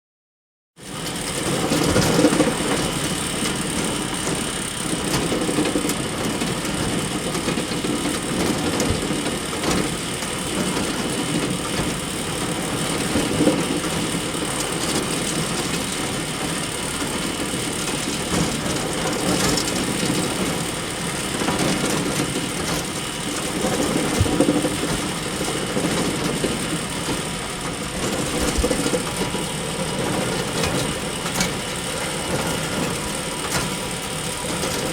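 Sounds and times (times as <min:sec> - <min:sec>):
chain conveyor clatter: 0:01.4 - 0:34.9.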